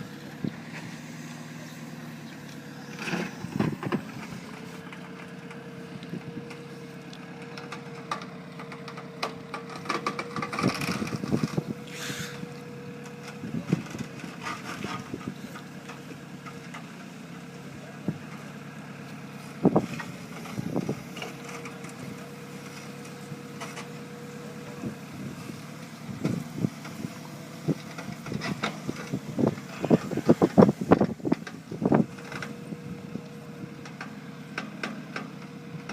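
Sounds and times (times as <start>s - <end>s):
construction machine engine: 0.0s - 35.9s.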